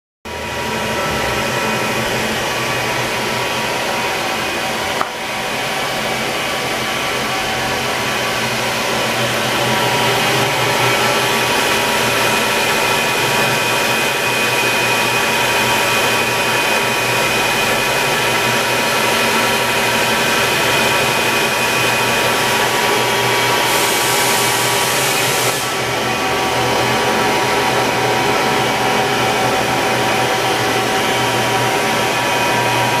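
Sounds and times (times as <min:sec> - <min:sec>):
machine motor whir with whine: 0:00.3 - 0:33.0.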